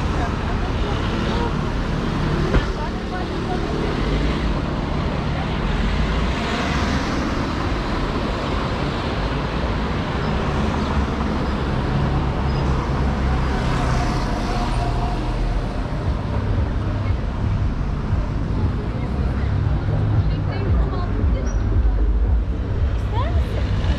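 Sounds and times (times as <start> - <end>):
city street traffic: 0.0 - 23.9.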